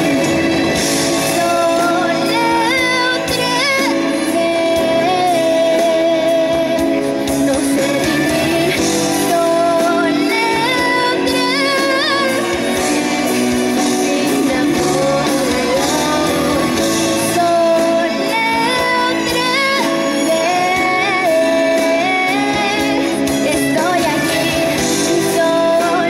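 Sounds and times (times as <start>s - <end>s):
instrumental accompaniment over loudspeakers: 0.0s - 26.0s
woman singing pop ballad: 0.0s - 26.0s.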